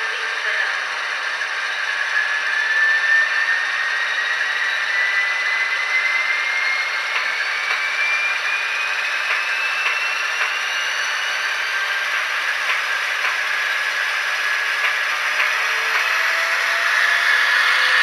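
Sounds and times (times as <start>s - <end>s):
rising motor whine: 0.0s - 18.0s
tinny model locomotive engine: 0.0s - 18.0s.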